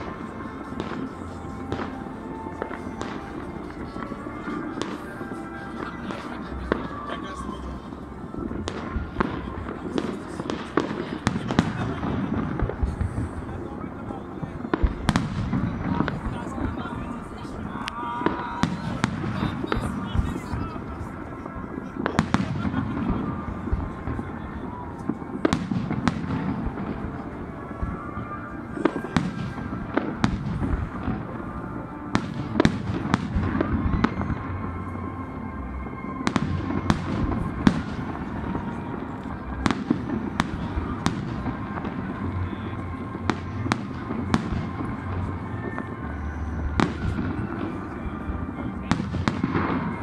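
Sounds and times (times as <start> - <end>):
fireworks bangs and cracks: 0.0 - 50.0.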